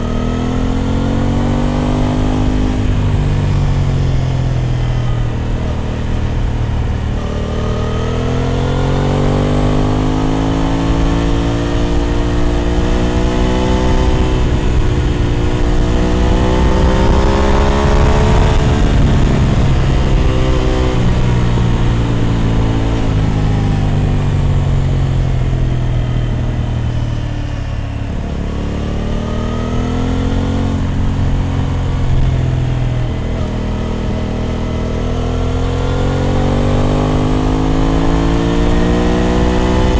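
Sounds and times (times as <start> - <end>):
wind noise: 0.0 - 27.4, 28.0 - 39.9
motorcycle engine revving: 0.0 - 39.9.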